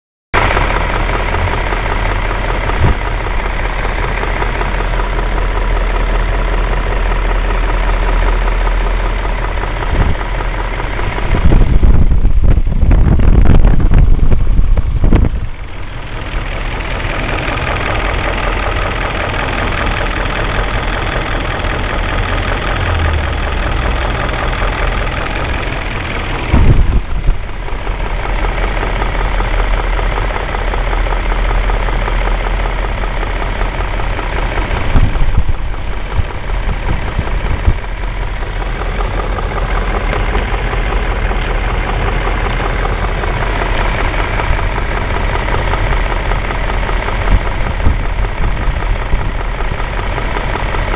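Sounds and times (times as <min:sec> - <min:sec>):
car engine idling: 0:00.4 - 0:50.9
engine rattle: 0:00.4 - 0:50.9.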